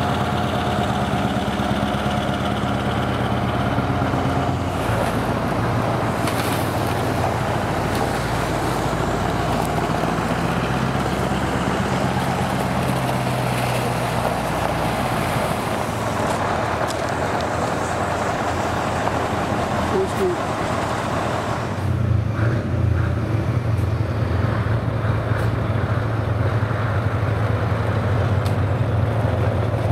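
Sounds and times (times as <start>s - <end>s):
diesel truck engine at low revs: 0.0s - 29.9s.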